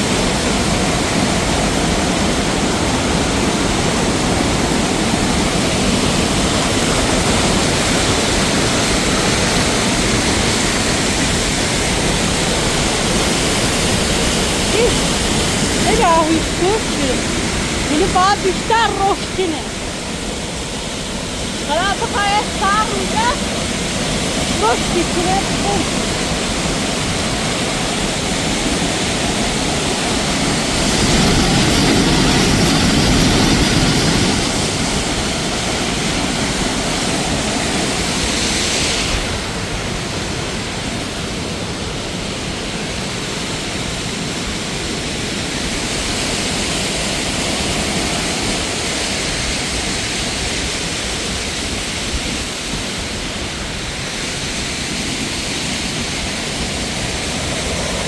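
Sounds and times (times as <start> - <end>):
rushing falling water: 0.0 - 58.0.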